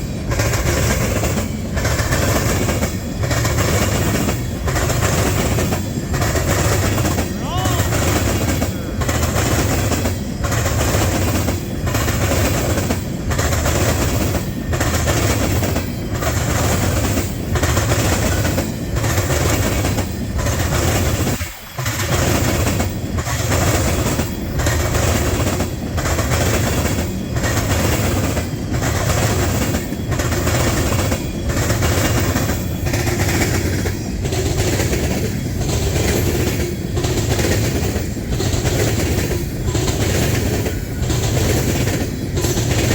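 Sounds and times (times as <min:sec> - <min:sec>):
freight train wheels clattering: 0:00.0 - 0:42.9.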